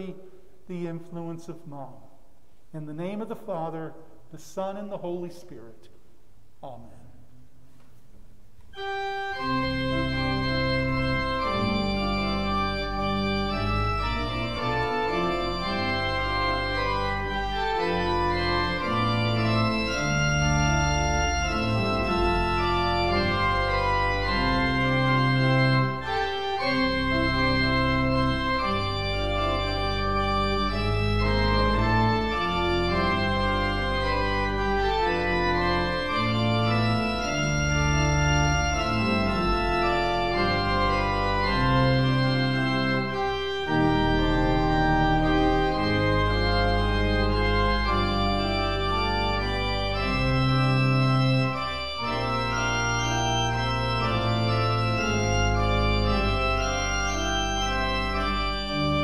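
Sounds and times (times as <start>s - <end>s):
church organ playing chords: 0.0s - 5.6s, 8.7s - 59.0s.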